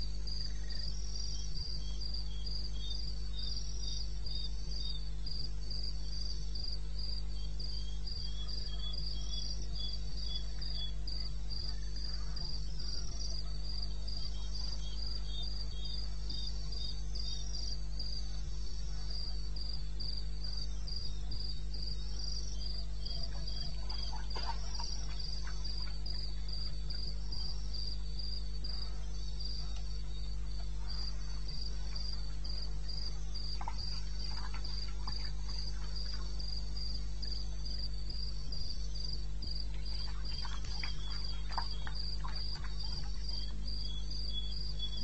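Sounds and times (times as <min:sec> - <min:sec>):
cricket chirping high: 0:00.0 - 0:45.0
lower-pitched cricket chirping: 0:00.0 - 0:45.0
steady low hum: 0:00.0 - 0:45.0.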